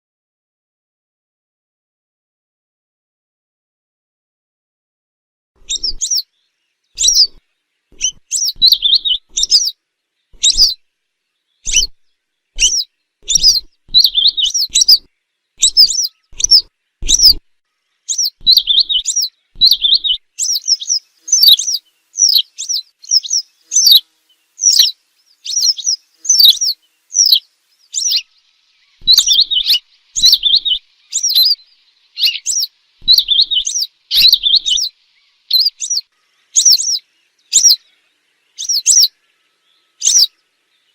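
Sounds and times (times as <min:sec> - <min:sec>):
wagtail calling: 0:05.6 - 0:06.4, 0:07.0 - 0:09.8, 0:10.4 - 0:10.8, 0:11.6 - 0:40.9.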